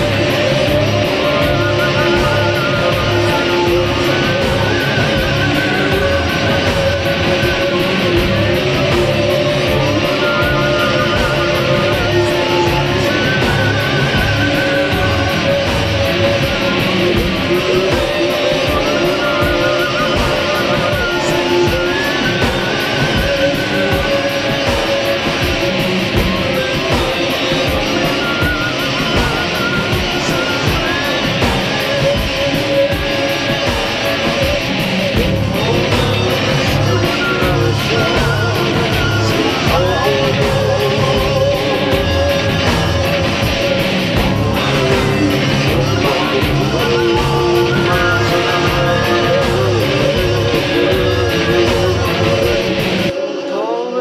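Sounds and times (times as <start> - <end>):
bass guitar: 0.0 - 53.1
steady drum beat: 0.0 - 53.1
electric guitars sustained notes: 0.0 - 54.0.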